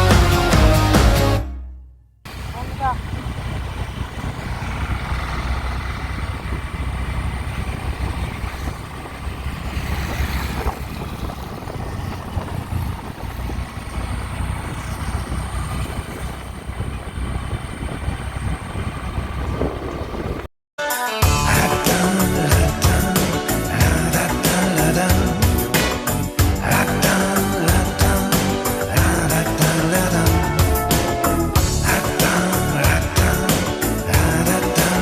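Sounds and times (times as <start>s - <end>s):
vehicle road and wind noise: 2.3s - 20.5s, 21.4s - 35.0s.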